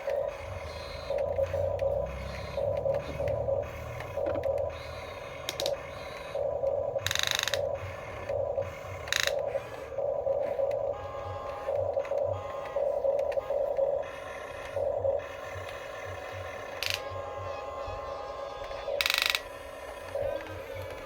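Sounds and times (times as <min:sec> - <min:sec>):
small gear motors whirring: 0:00.0 - 0:21.0.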